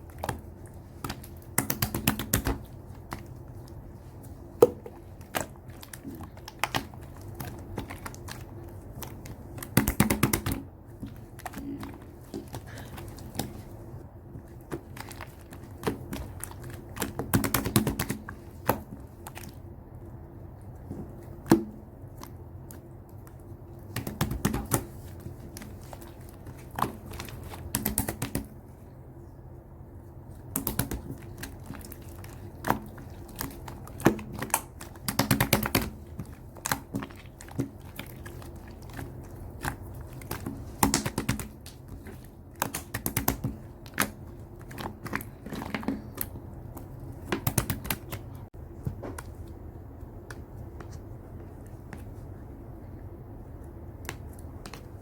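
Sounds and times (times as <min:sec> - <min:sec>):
slime squishing with sticky clicks: 0:00.0 - 0:28.7, 0:30.2 - 0:52.3.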